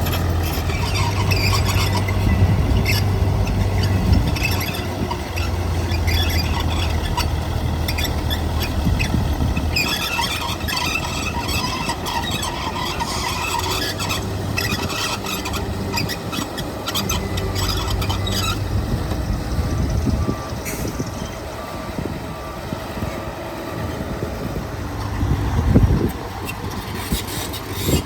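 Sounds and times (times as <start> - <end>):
metallic squealing and clanking: 0.0 - 22.2, 25.2 - 28.0
diesel earthmoving machinery running: 0.0 - 28.0.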